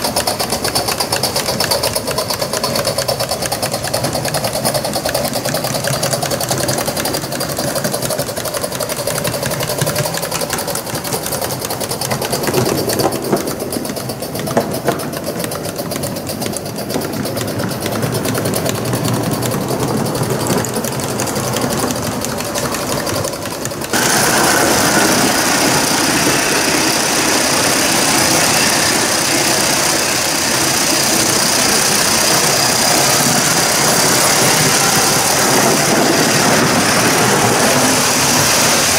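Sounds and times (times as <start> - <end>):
steam hissing: 0.0 - 38.9
steam locomotive exhaust beats: 0.0 - 38.9
wheels on track: 0.0 - 38.9.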